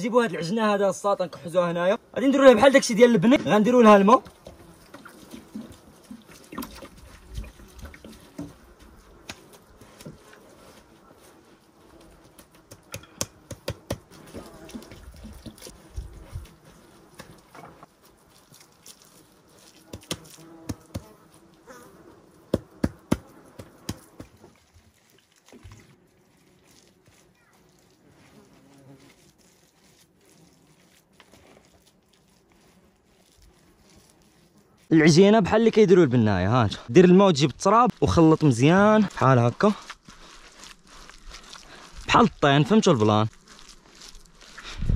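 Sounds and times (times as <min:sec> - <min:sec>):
hands kneading wet mud: 0:00.1 - 0:21.4, 0:22.4 - 0:44.9.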